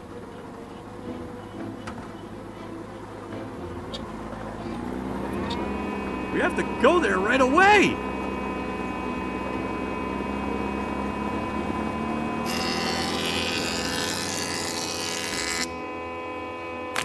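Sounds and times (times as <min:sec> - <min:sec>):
faint rising whine: 0:00.0 - 0:12.5, 0:15.7 - 0:17.0
loader engine running: 0:00.0 - 0:17.0.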